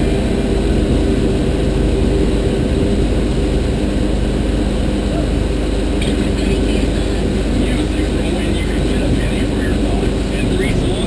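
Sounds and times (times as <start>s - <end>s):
outboard motor running: 0.0s - 11.0s
water rushing along hull: 0.0s - 11.0s.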